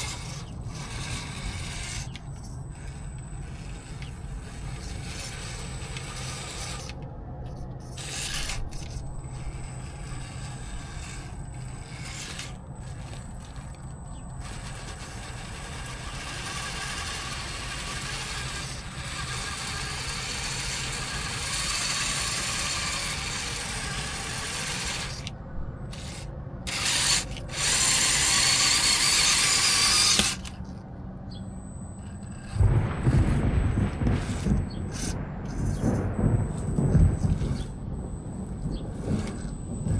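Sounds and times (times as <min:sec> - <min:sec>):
electric motor and drivetrain whirring: 0:00.0 - 0:39.9.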